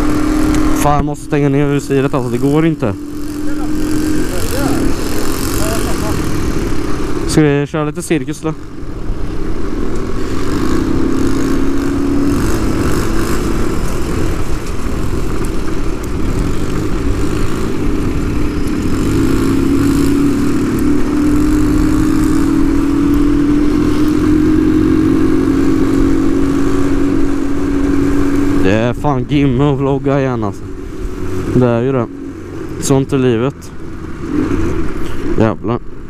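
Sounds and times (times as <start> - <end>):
moped engine running: 0.0 - 36.0.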